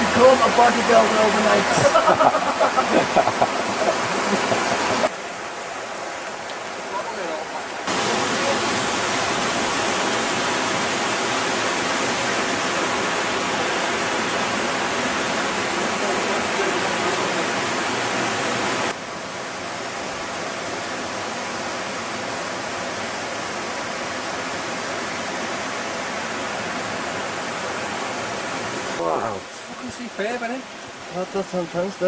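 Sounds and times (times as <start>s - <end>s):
waterfall rushing water: 0.0s - 32.0s.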